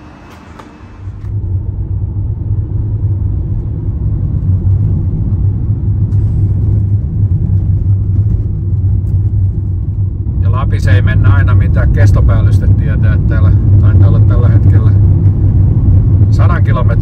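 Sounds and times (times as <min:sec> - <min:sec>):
van engine: 0:00.0 - 0:17.0.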